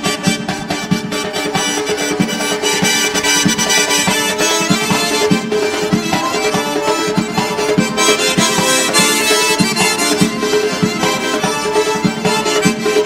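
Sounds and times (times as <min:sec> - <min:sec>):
folk dance music: 0:00.0 - 0:13.0.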